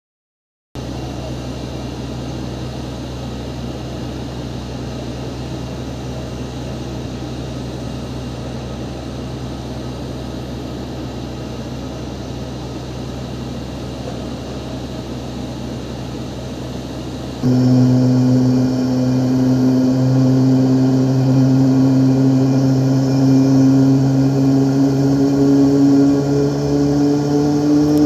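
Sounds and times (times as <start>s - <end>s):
jet engines humming and whining: 0.9s - 28.0s.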